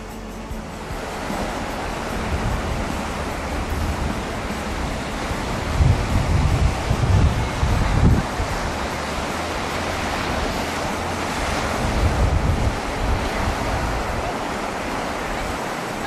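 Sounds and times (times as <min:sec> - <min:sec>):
surf breaking over rocks: 0:00.0 - 0:16.0
wind buffeting microphone: 0:00.0 - 0:16.0.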